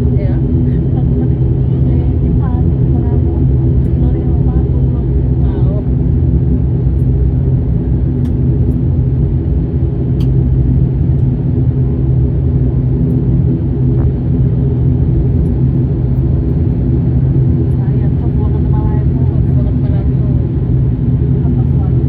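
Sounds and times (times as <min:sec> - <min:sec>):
turboprop cabin drone: 0:00.0 - 0:22.0.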